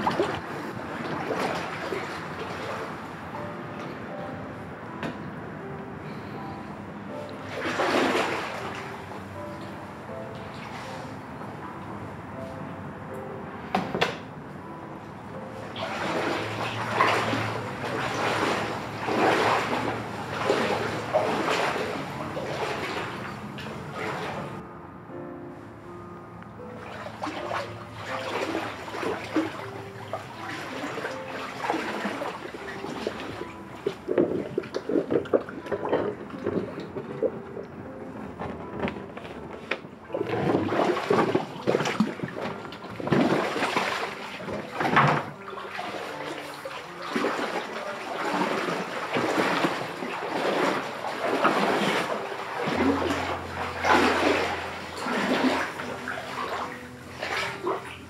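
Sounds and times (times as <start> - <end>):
wading through water: 0.0 - 4.3, 6.1 - 11.4, 15.4 - 24.6, 26.6 - 58.0.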